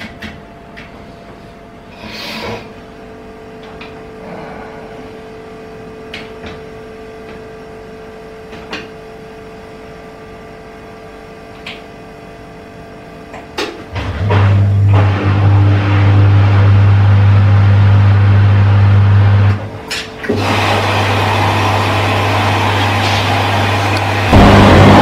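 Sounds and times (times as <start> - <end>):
washing machine electrical hum: 0.0 - 25.0.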